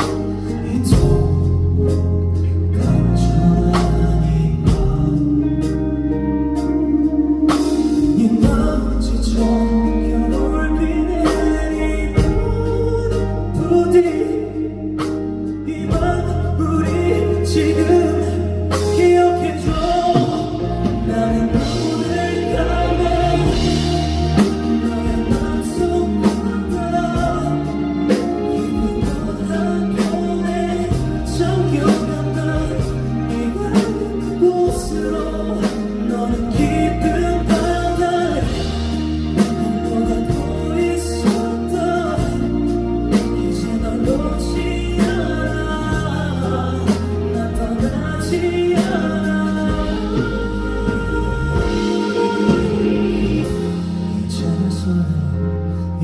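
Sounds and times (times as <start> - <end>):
live band with drums and bass: 0.0 - 56.0
person singing: 0.0 - 56.0.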